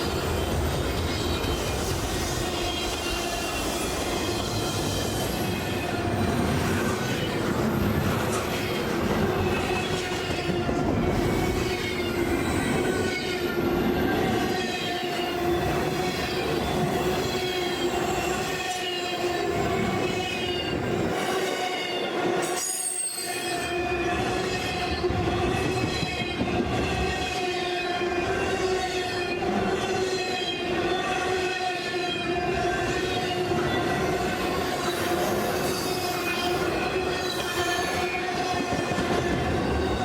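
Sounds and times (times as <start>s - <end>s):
rumble of train cars: 0.0s - 40.0s
train wheels squealing: 0.0s - 40.0s.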